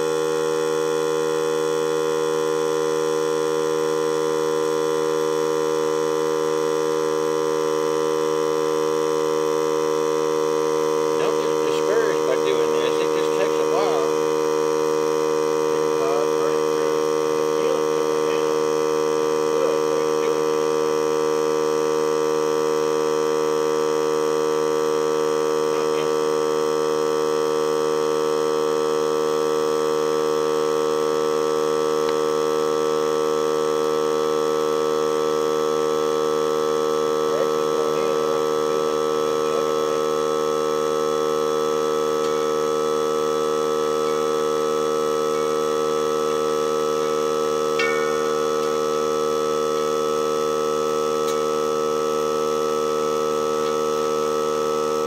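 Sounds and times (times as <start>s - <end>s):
air compressor humming: 0.0s - 55.0s
higher tone: 2.8s - 40.4s, 41.2s - 55.0s.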